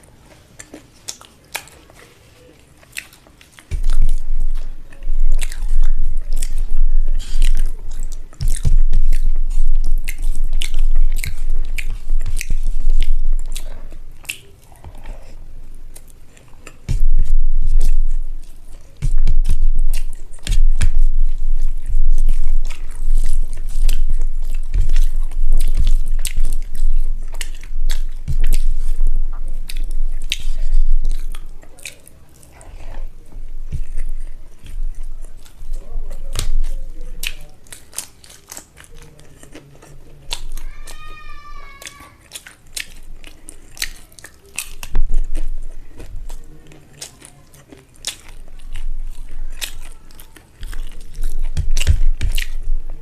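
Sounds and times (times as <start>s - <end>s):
chewing and mouth smacks: 0.0s - 53.0s.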